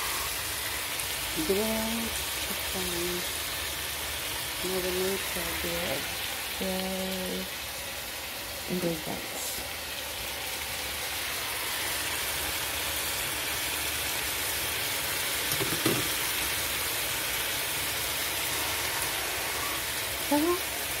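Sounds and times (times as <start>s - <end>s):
chicken sizzling in a grill pan: 0.0s - 21.0s.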